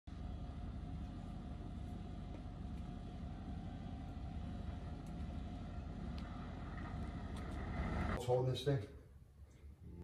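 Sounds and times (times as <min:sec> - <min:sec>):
low engine rumble: 0:00.1 - 0:08.2
faint constant hum: 0:00.1 - 0:10.0.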